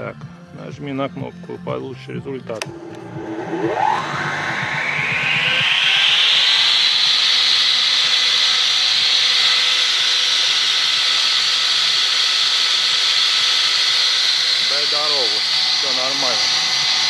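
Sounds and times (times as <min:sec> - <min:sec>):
saw motor whining: 0:02.4 - 0:17.0.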